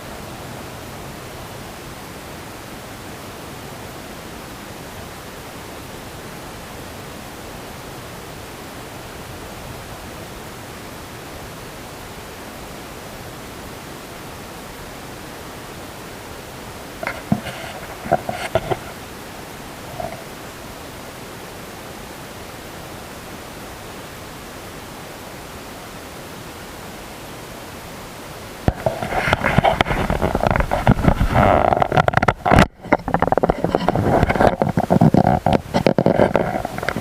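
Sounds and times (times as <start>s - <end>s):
steady noise hiss: 0.0s - 37.0s.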